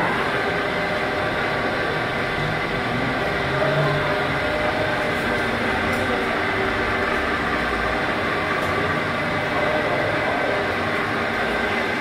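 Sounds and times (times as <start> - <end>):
metal lathe running: 0.0 - 12.0.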